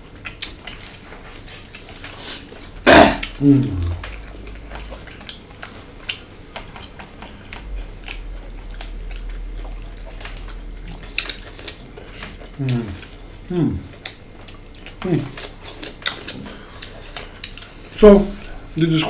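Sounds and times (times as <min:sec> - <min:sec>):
chewing and crunching salad: 0:00.0 - 0:19.0.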